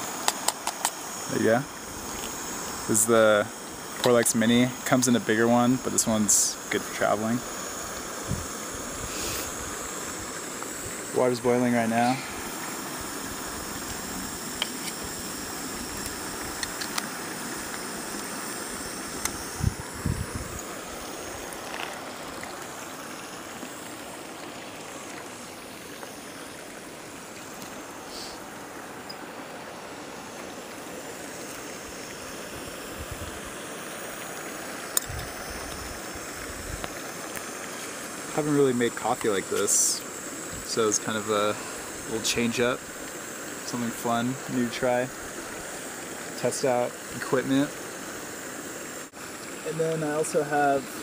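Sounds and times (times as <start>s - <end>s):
gas burner hissing: 0.0s - 51.0s
water boiling: 0.0s - 51.0s.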